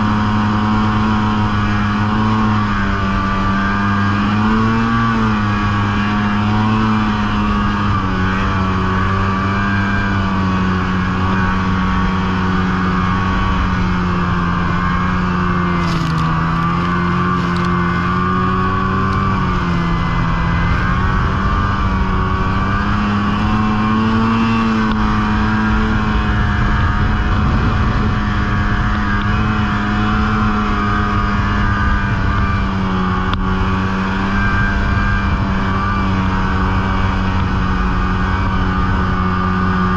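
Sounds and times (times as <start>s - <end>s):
constant rushing noise: 0.0s - 39.9s
snowmobile engine running: 0.0s - 39.9s.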